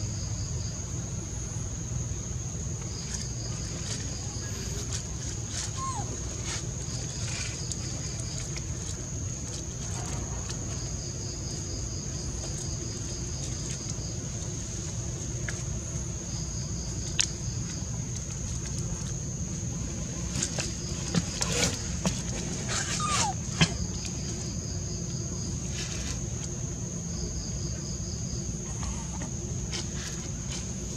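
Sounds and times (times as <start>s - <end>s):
high insect drone: 0.0s - 30.9s.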